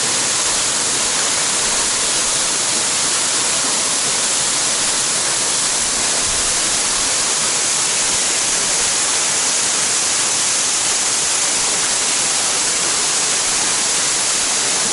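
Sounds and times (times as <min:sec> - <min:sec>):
waterfall crashing: 0:00.0 - 0:14.9.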